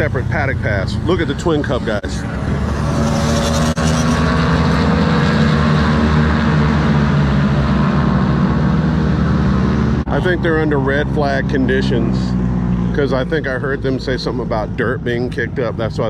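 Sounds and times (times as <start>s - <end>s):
motorcycle engines running at low revs: 0.0s - 16.0s.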